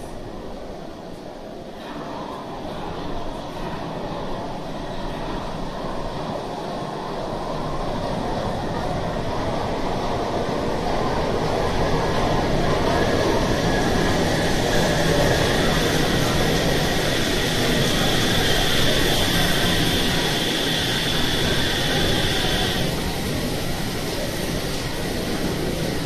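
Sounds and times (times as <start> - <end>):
monorail car running: 0.0 - 26.0.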